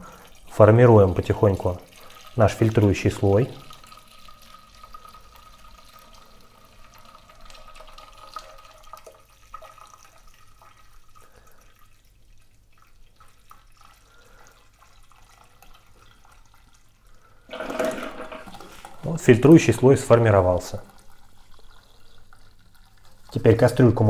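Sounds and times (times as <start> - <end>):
liquid dripping and splashing into pot: 0.0 - 24.0.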